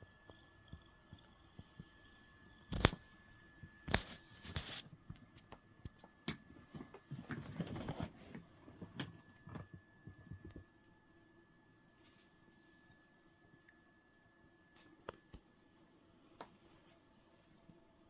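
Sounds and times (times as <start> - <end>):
faint high-pitched whine: 0.0 - 18.0.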